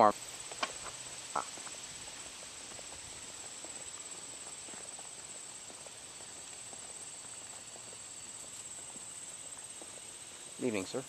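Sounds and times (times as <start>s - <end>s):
faint outdoor background noise: 0.0s - 11.0s
insects trilling: 0.0s - 11.0s.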